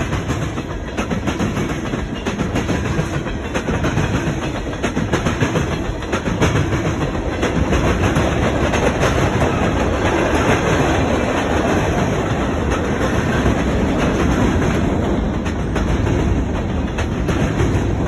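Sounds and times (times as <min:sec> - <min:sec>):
rumble of train wheels on rail: 0:00.0 - 0:18.0.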